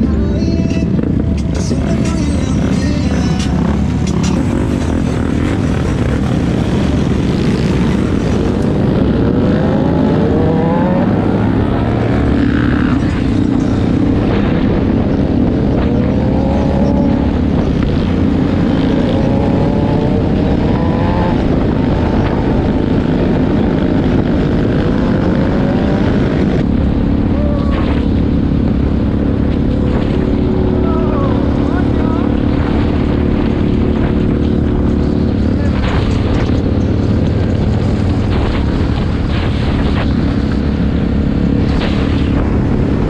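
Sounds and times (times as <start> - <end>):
motorcycle engines accelerating: 0.0 - 43.0.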